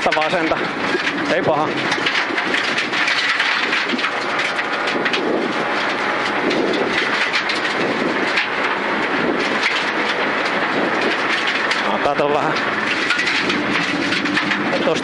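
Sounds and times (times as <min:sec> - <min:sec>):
car engine running hard: 0:00.0 - 0:15.0
gravel rattling against underbody: 0:00.0 - 0:15.0
tyre and road noise: 0:00.0 - 0:15.0.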